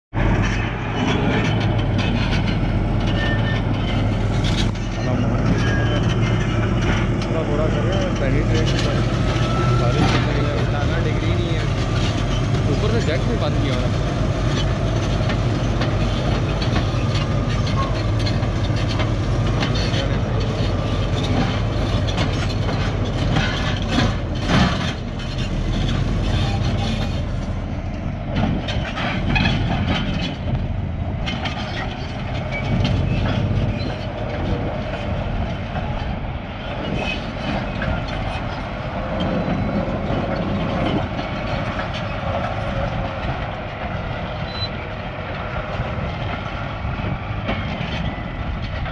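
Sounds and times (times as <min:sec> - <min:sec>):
bulldozer diesel engine running hard: 0:00.1 - 0:48.9
steel tracks clanking over rock: 0:00.1 - 0:48.9.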